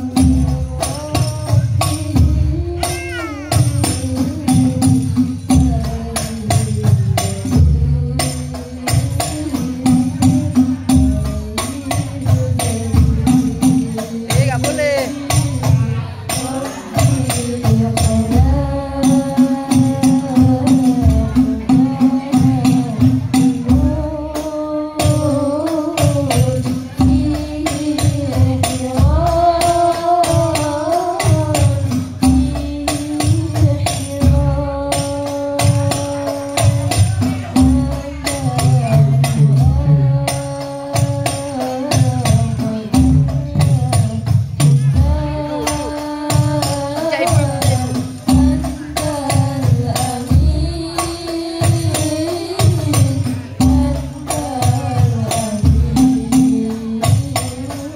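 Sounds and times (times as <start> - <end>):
girls singing through microphones: 0.0 - 14.4, 15.3 - 57.9
frame drums beating: 0.0 - 57.9.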